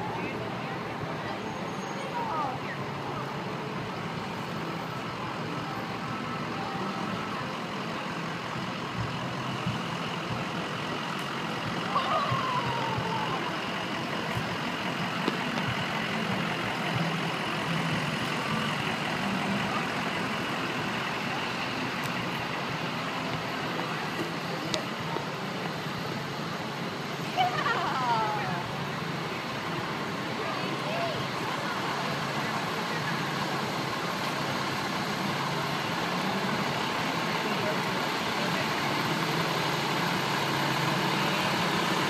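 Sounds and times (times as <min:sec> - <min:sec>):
street noise: 0:00.0 - 0:42.0.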